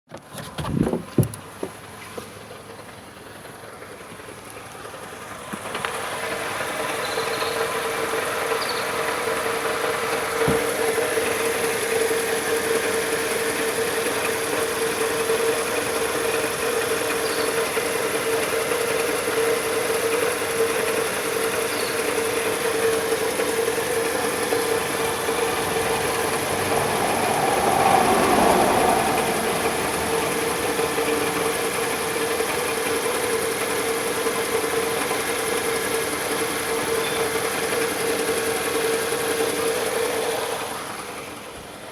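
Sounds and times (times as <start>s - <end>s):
pickup engine idling: 0.4s - 41.9s.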